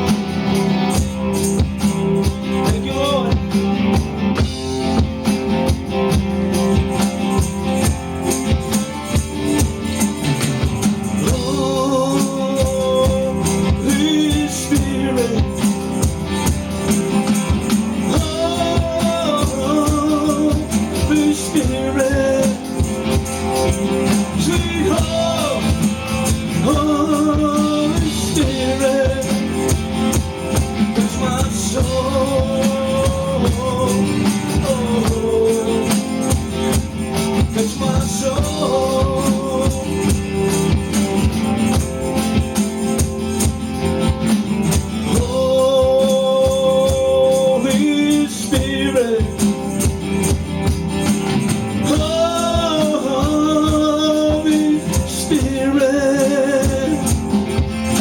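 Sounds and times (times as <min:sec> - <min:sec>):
song with singing voice: 0:00.0 - 0:58.0
tambourine-like percussion: 0:00.0 - 0:58.0.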